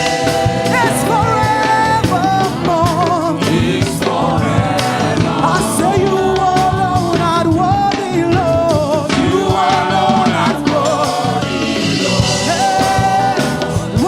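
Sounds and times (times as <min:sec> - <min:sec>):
band with keyboard and drums: 0:00.0 - 0:14.0
person singing with vibrato: 0:00.0 - 0:14.0.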